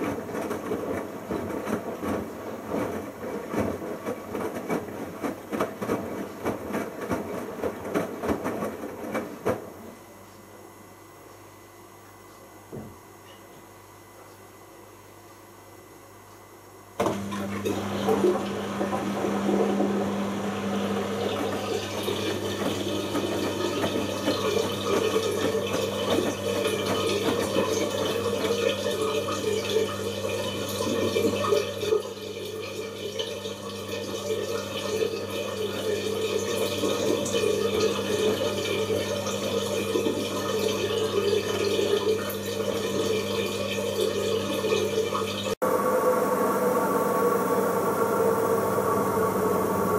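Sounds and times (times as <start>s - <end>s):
water rushing into washing machine: 0.0s - 9.9s, 17.0s - 49.9s.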